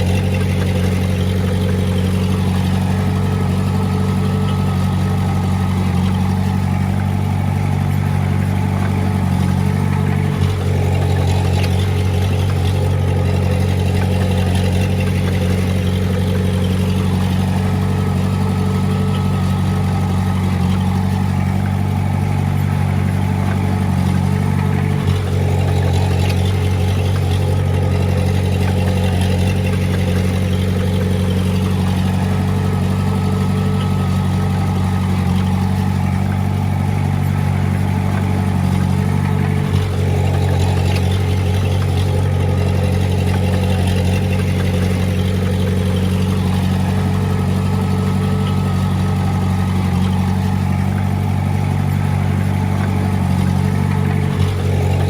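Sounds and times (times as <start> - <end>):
diesel engine running loudly: 0.0 - 55.0.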